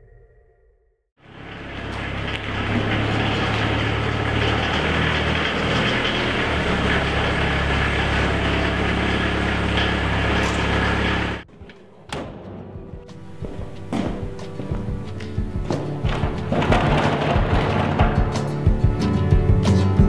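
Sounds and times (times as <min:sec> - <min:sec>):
van engine running: 0:01.2 - 0:11.5, 0:13.1 - 0:20.0.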